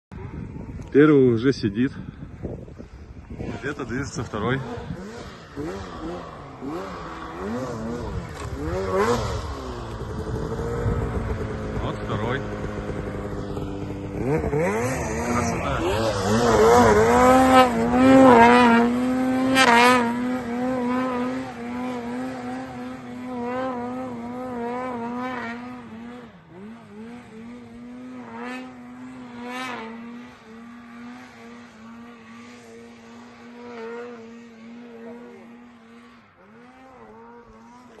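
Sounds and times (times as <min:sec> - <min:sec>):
snowmobile engine revving: 0:02.9 - 0:38.0.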